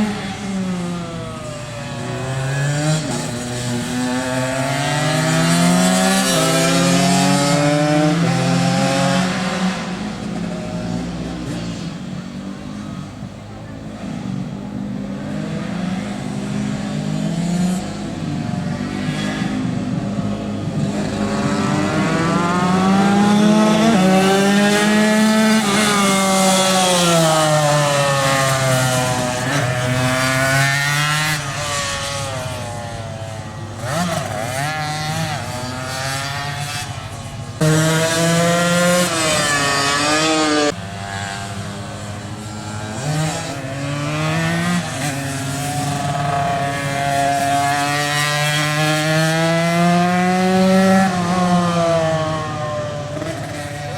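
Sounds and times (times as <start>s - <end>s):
racing motorcycle engines revving: 0.0s - 53.9s.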